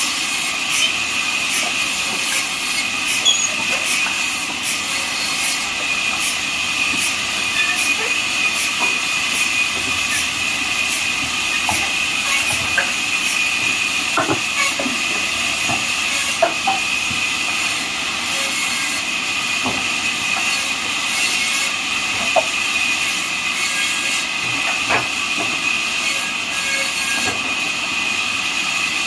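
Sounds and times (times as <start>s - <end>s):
band saw cutting log: 0.0s - 29.0s.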